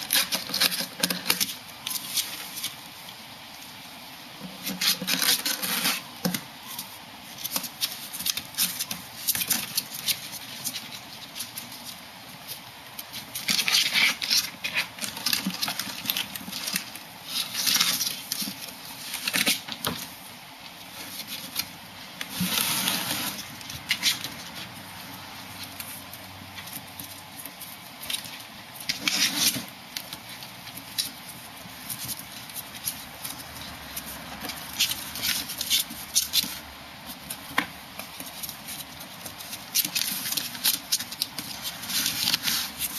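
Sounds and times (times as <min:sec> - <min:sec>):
claws scratching on cardboard: 0:04.4 - 0:20.2, 0:20.8 - 0:42.9.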